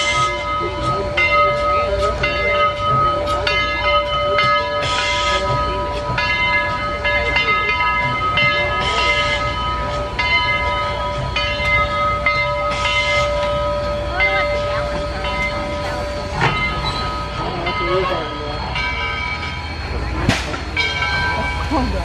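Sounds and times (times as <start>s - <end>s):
bell ringing: 0.0s - 22.0s
moving train rumble: 0.0s - 22.0s.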